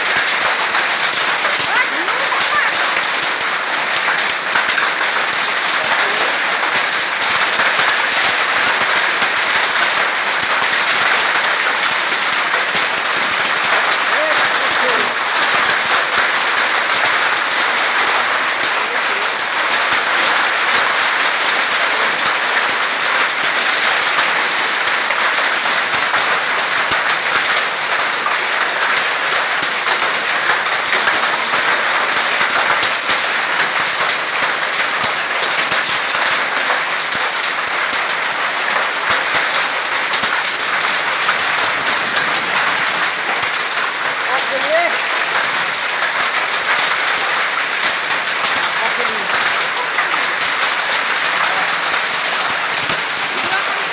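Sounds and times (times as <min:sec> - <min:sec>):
rain and hail on metal roof: 0:00.0 - 0:53.9.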